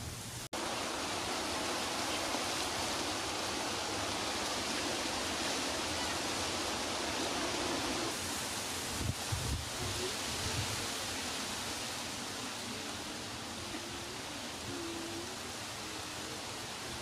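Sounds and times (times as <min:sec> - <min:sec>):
wind through leaves: 0:00.0 - 0:17.0.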